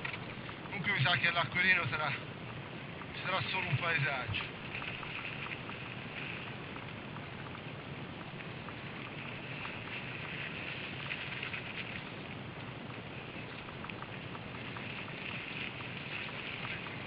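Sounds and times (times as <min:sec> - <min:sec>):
small crackles and clicks: 0:00.0 - 0:17.0.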